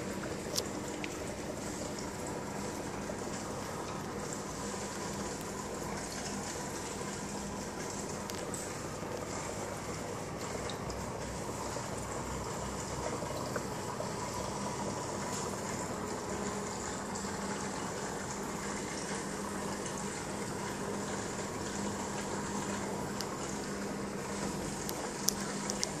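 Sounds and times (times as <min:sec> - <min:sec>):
aquarium filter circulating water: 0:00.0 - 0:26.0
low steady hum: 0:00.0 - 0:26.0.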